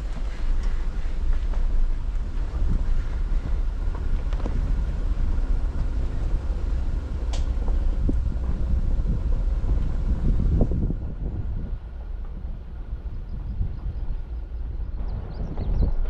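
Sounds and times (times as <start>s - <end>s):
vehicle engine low rumble: 0.0s - 16.0s
wind buffeting microphone: 0.0s - 16.0s.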